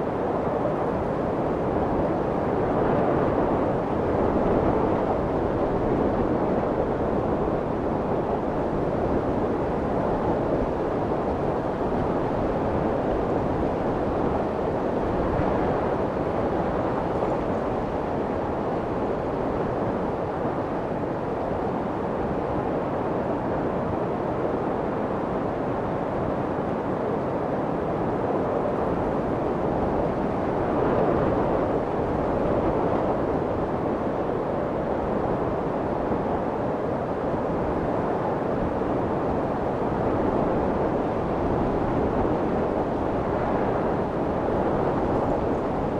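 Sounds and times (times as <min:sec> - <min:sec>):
muffled white noise: 0:00.0 - 0:45.9.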